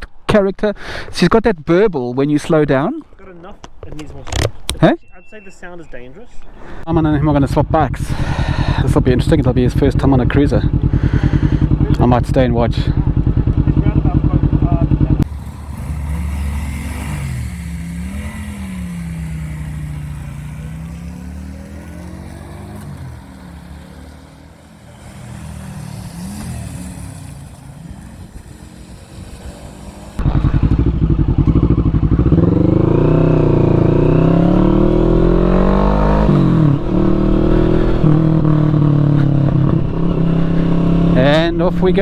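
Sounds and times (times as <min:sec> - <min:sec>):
distant motorcycle engines: 0:03.5 - 0:42.0
motorcycle engine revving: 0:07.0 - 0:42.0.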